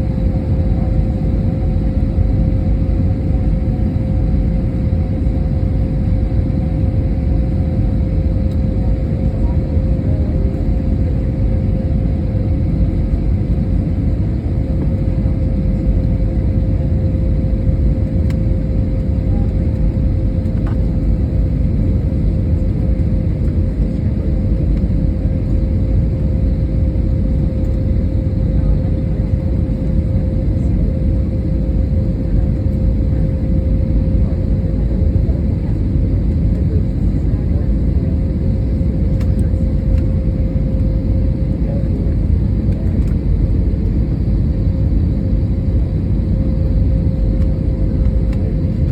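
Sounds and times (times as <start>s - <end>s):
aircraft cabin engine rumble: 0.0s - 48.9s
mid-pitched hum: 0.0s - 48.9s.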